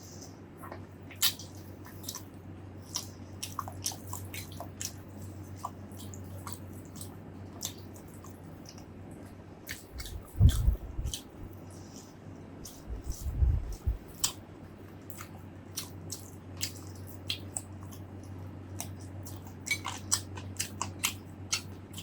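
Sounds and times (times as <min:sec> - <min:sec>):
wet chewing and mouth clicks: 0:00.6 - 0:11.9, 0:12.6 - 0:14.4, 0:15.1 - 0:22.0.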